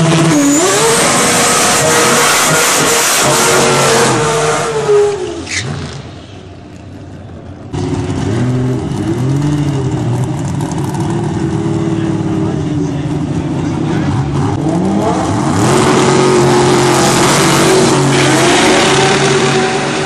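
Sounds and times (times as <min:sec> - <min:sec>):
race engine revving: 0:00.0 - 0:06.1, 0:07.7 - 0:20.0
drag car engine at high revs: 0:00.0 - 0:06.4, 0:07.7 - 0:20.0.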